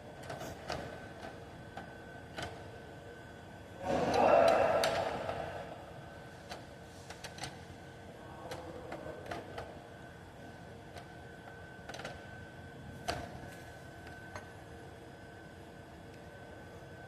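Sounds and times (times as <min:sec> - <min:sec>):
faint high hum: 0:00.0 - 0:17.0.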